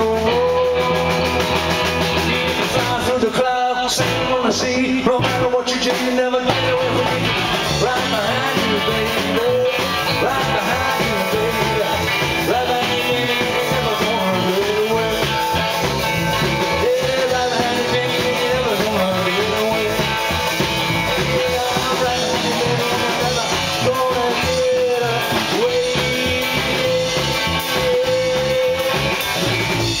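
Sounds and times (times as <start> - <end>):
electric guitar lead with bent notes: 0.0 - 30.0
rock band playing live: 0.0 - 30.0.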